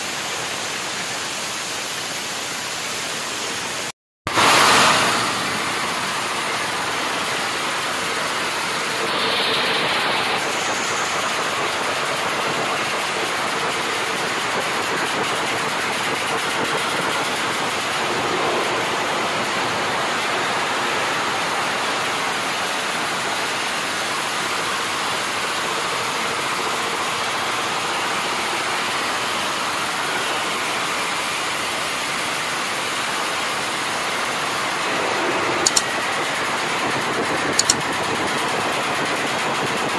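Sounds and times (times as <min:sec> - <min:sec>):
motorcycle engines with open exhausts: 0:00.0 - 0:39.9.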